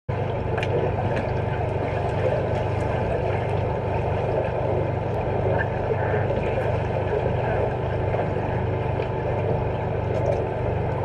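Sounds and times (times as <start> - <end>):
underwater low hum and hiss: 0.1 - 11.0.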